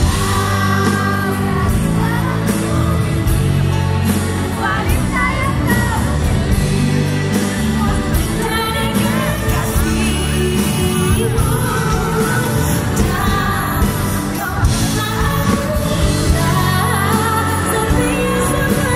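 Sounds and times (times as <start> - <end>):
live pop band with strings: 0.0 - 18.9
woman singing into a microphone: 0.0 - 18.9.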